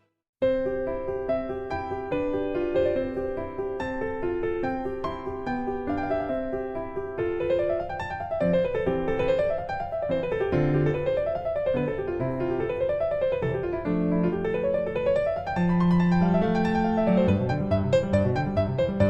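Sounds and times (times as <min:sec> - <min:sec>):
piano arpeggios: 0:00.4 - 0:19.0.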